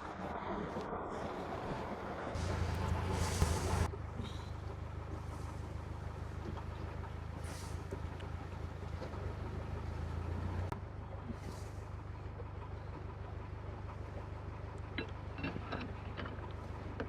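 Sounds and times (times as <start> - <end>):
boat diesel engine hum: 0.0 - 17.0.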